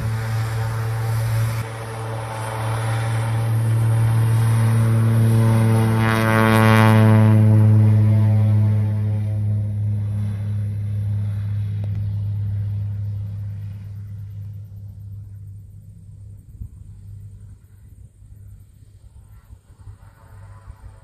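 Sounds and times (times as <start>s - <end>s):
turboprop engine drone: 0.0s - 21.0s.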